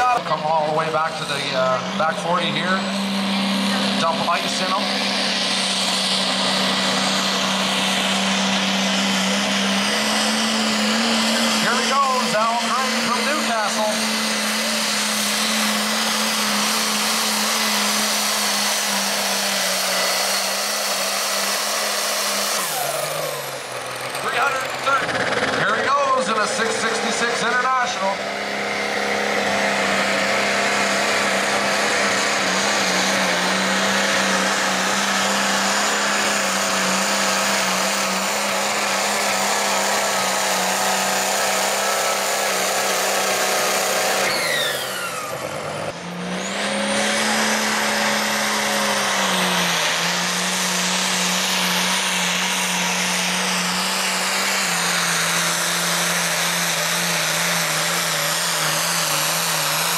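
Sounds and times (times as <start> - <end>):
diesel tractor engine at full throttle: 0.0 - 59.9.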